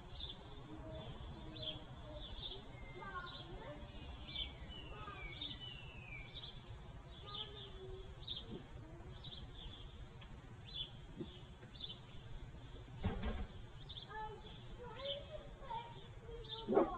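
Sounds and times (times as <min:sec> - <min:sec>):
bird chirping: 0:00.0 - 0:16.9.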